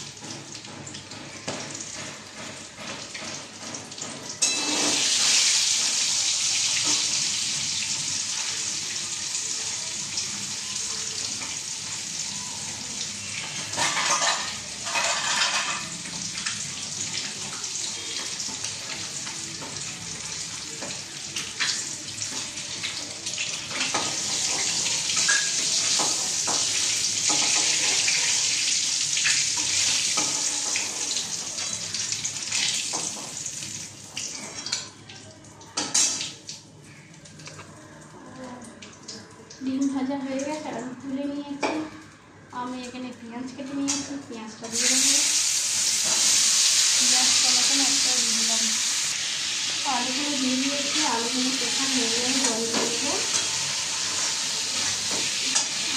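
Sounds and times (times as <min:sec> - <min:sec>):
food sizzling in hot oil: 0:00.0 - 0:35.0, 0:43.5 - 0:55.9.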